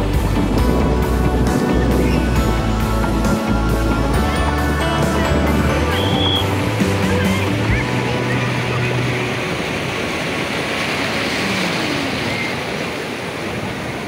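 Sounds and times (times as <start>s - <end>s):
waves breaking: 0.0s - 14.0s.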